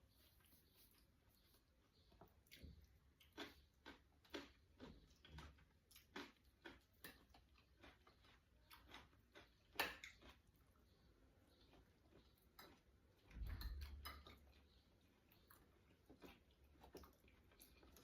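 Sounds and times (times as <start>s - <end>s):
chewing clicks and taps: 2.0s - 18.0s.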